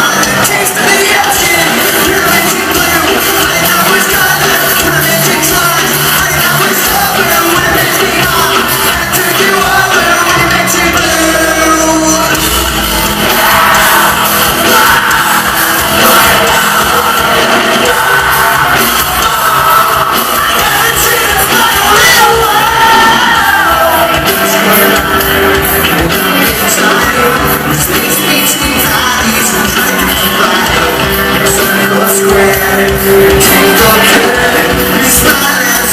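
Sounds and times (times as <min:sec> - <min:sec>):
live rock band playing: 0:00.0 - 0:35.9
singer singing and yelling: 0:00.0 - 0:35.9.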